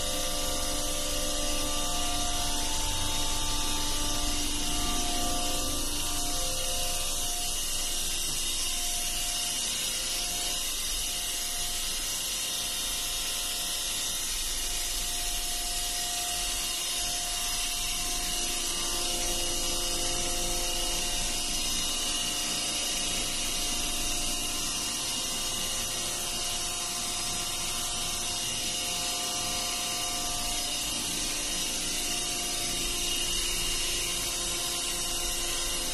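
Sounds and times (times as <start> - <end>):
electric pumps running: 0.0 - 35.9
machinery hums: 0.0 - 35.9.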